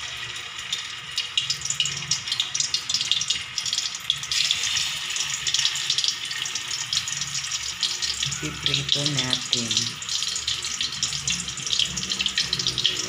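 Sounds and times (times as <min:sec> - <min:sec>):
meatballs sizzling in oil: 0:00.0 - 0:13.0.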